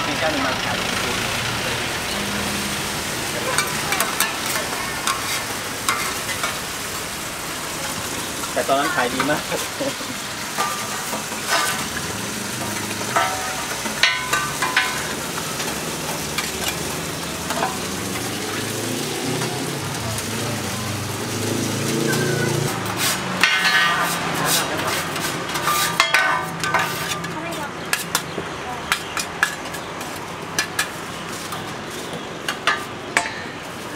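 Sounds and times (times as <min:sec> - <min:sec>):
noodles sizzling in a wok: 0:00.0 - 0:33.9
metal spatula scraping wok: 0:02.0 - 0:20.3, 0:21.3 - 0:33.9.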